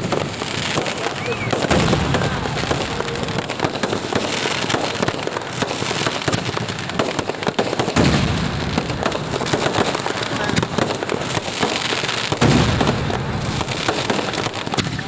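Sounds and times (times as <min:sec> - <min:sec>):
fireworks crackling: 0:00.0 - 0:15.0
fireworks low boom: 0:00.0 - 0:15.0.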